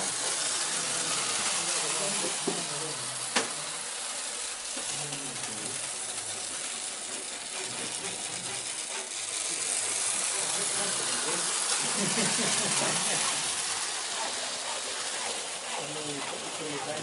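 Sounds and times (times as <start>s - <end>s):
model train motor whirring: 0.0s - 17.0s.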